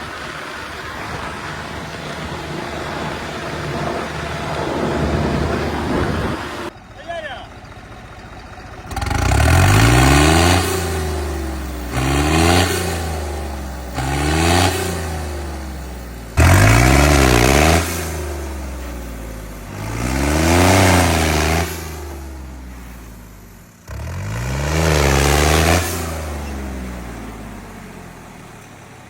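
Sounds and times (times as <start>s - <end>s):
diesel tractor engine revving: 0.0s - 29.0s.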